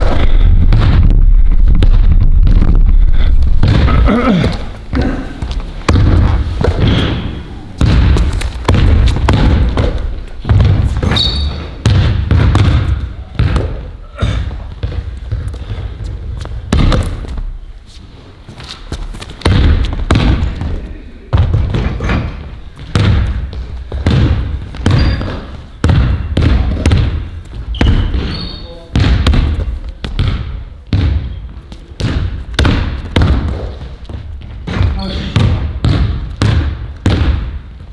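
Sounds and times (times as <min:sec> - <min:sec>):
basketball bouncing on gym floor: 0:00.0 - 0:37.9.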